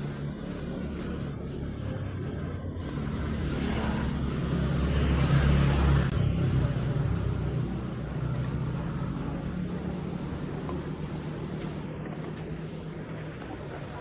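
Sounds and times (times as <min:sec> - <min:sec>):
motor vehicle rumble: 0:01.9 - 0:14.0.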